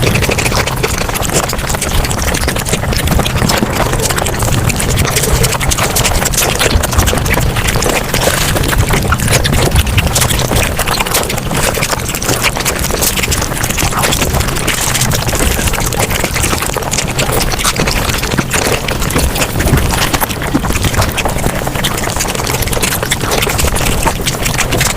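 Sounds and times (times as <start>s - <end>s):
sped-up chewing and slurping: 0.0s - 24.9s.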